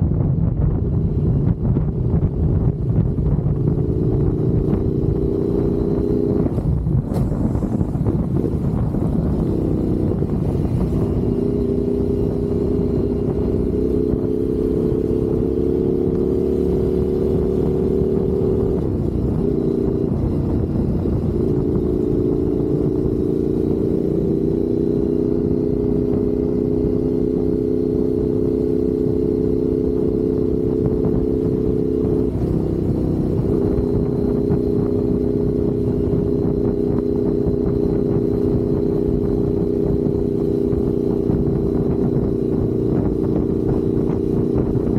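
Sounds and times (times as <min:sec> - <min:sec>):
motorcycle engine cruising: 0:00.0 - 0:44.9
road rumble: 0:00.0 - 0:44.9
wind noise: 0:00.0 - 0:44.9.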